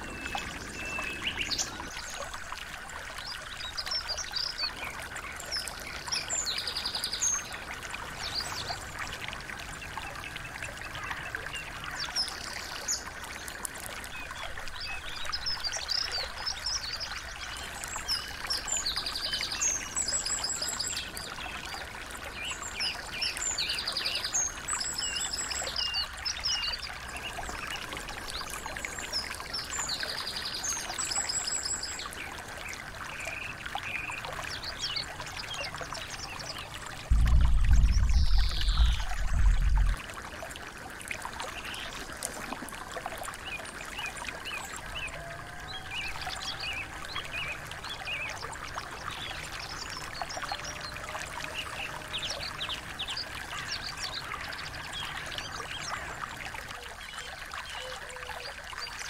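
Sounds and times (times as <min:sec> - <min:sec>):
songbirds chirping and trilling: 0:00.0 - 0:39.9, 0:43.4 - 0:59.0
stream trickling: 0:00.0 - 0:59.0.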